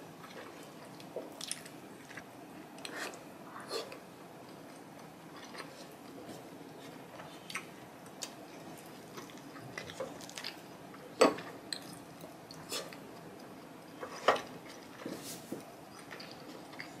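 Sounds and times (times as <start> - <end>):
small wet crackles: 0.2 - 3.1, 4.5 - 11.1, 11.7 - 17.0
chewing food: 0.2 - 17.0.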